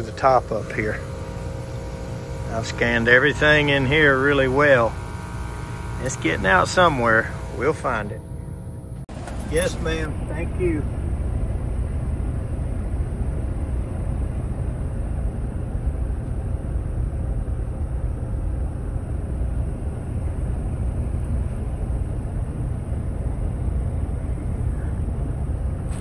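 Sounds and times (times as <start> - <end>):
heat pump compressor and fan hum: 0.0 - 26.0.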